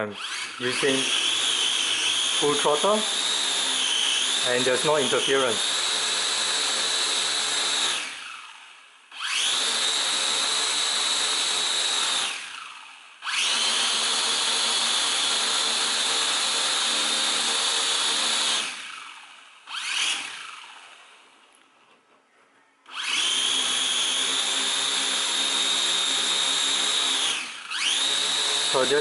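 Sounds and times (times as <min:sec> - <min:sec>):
quadcopter motors whining: 0:00.0 - 0:21.1, 0:22.9 - 0:29.0.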